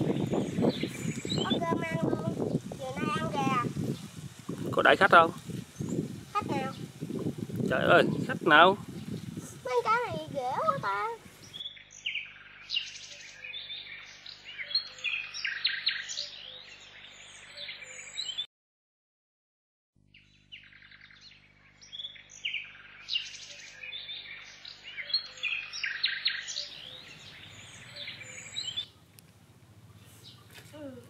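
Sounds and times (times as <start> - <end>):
small birds chirping: 0.0 - 18.5, 20.0 - 31.0.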